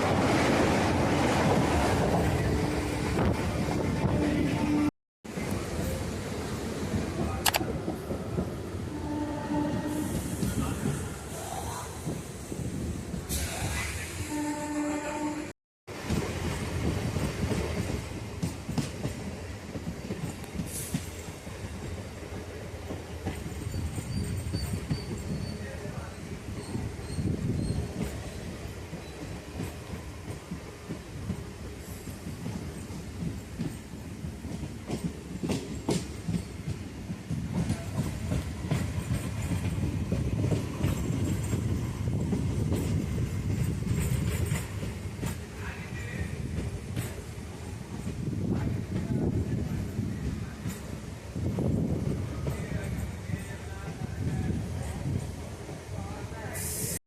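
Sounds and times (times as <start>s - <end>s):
passenger train rumbling on track: 0.0s - 57.0s.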